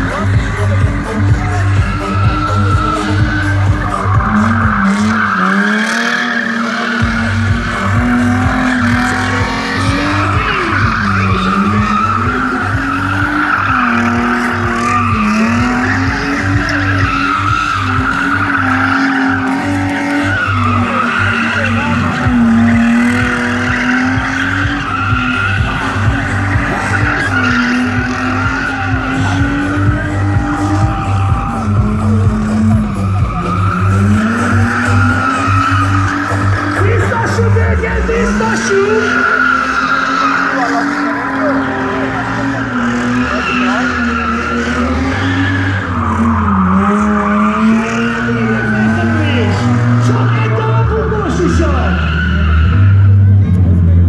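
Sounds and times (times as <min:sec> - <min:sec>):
car engine revving: 0:00.0 - 0:54.0
tyres squealing and skidding: 0:00.0 - 0:54.0.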